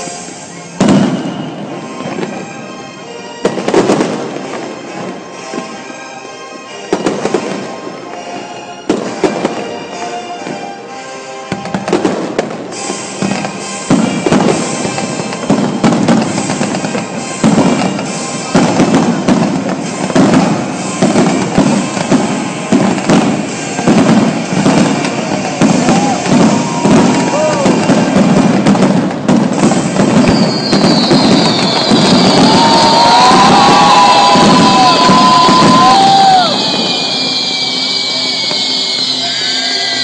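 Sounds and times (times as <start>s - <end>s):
fireworks bursting and crackling: 0.0s - 40.0s
music: 0.0s - 40.0s.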